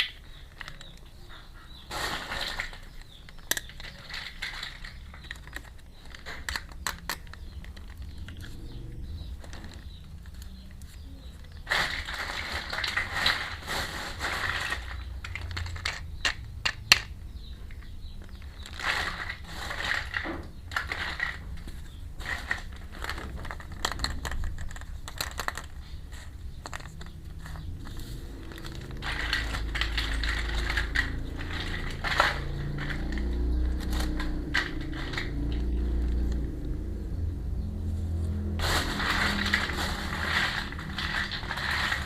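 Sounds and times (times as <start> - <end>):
plastic toy pieces clicking: 0.0 - 1.1, 1.9 - 36.6, 38.6 - 42.0
plastic packaging crinkling: 1.9 - 16.6, 18.3 - 36.7, 37.8 - 42.0.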